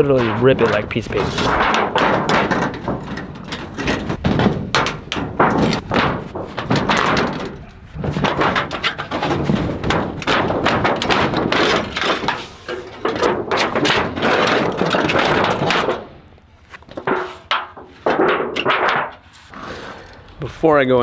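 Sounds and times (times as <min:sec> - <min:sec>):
sheet metal being torn and bent: 0:00.0 - 0:20.1.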